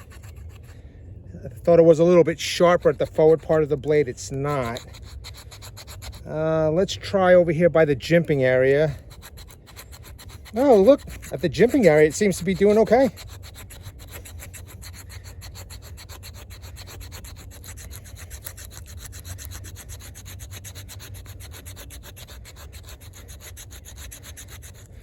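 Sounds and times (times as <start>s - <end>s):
knife scraping wood: 0.0s - 0.8s, 1.7s - 25.0s.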